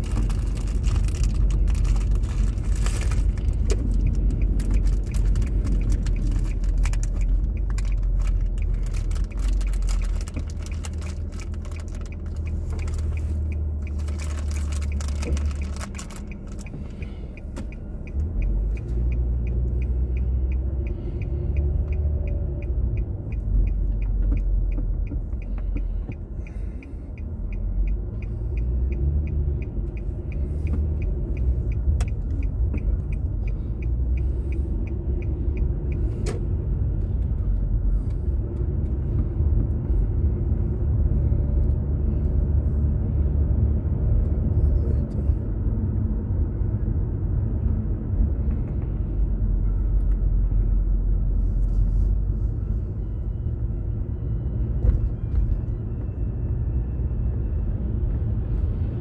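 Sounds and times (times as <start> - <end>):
car engine and road rumble: 0.0 - 59.0
turn signal ticking: 0.0 - 59.0.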